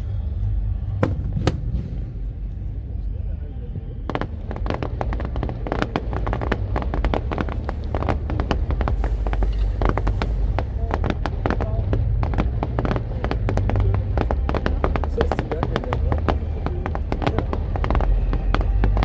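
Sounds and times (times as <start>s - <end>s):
fireworks bangs and crackling: 0.0s - 19.0s
low rumble of shell bursts: 0.0s - 19.0s.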